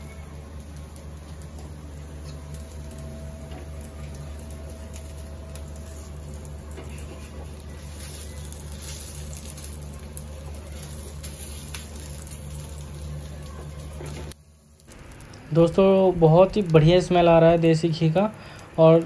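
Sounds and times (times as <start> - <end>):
food sizzling and crackling: 0.0 - 19.0
low hum: 0.0 - 19.0.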